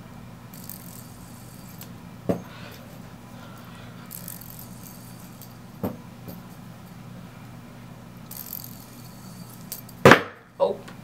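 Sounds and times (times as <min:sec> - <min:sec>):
fidget spinner whirring: 0:00.4 - 0:10.1.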